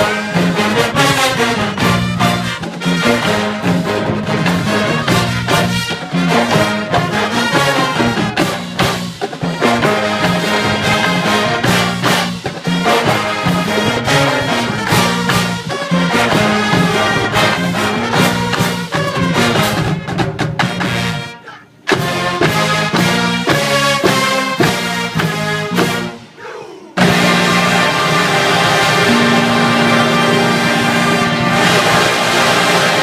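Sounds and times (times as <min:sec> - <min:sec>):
marching band brass playing funk: 0:00.0 - 0:33.0.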